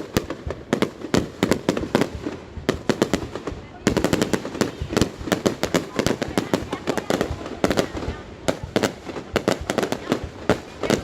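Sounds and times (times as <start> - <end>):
fireworks bursting bangs: 0.0 - 11.0.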